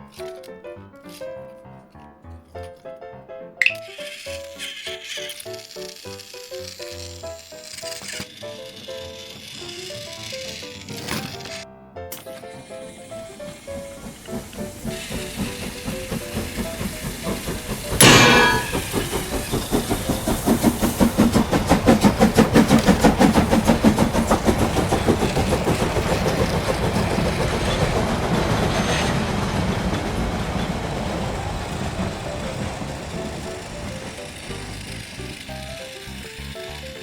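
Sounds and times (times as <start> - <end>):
train clickety-clack: 4.1 - 37.0.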